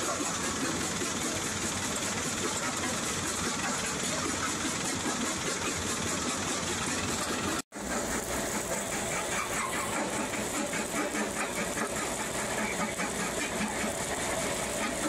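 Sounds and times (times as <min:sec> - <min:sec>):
conveyor and feeder rumbling: 0:00.0 - 0:15.0.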